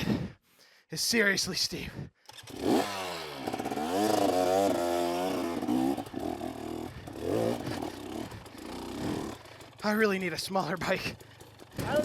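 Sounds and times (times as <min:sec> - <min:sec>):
dirt bike engine revving: 0:02.3 - 0:12.0.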